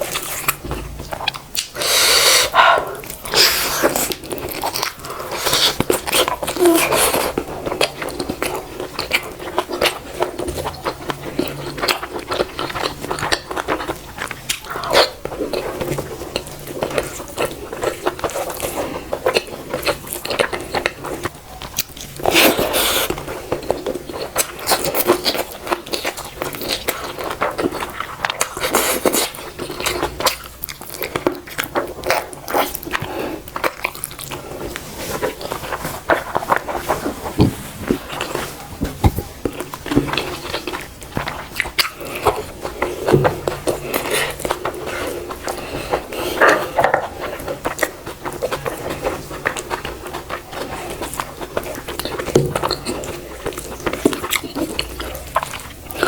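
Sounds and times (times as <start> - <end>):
person chewing and biting: 0.0 - 56.0.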